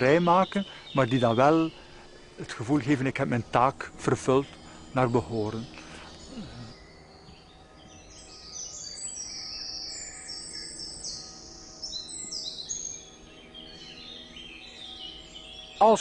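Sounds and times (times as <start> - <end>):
songbird chirps and trills: 0.0 - 16.0.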